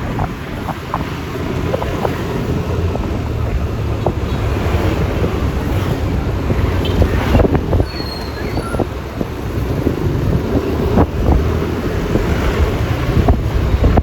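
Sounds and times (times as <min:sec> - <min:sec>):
road noise: 0:00.0 - 0:14.0
wind rumble on microphone: 0:00.0 - 0:14.0.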